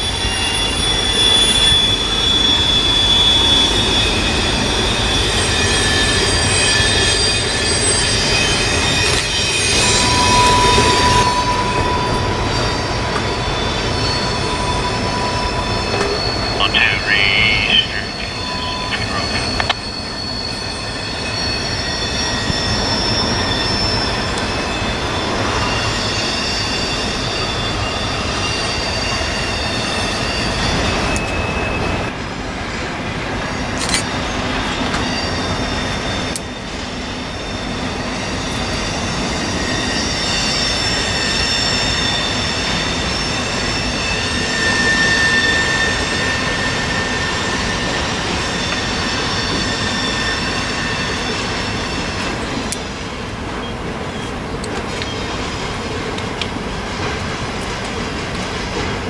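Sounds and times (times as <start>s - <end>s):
high-pitched wheel squeal: 0.0s - 17.2s, 18.1s - 32.9s, 34.0s - 54.4s
train wheels rumbling on rail: 0.0s - 59.0s.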